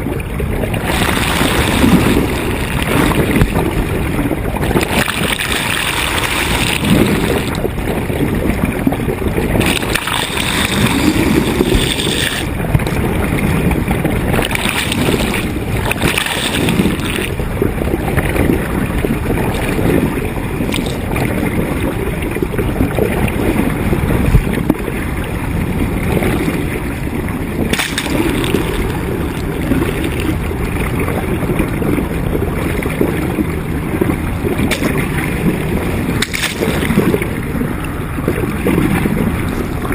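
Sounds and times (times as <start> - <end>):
water splashing along boat hull: 0.0 - 39.9
wind gusting on microphone: 0.0 - 39.9.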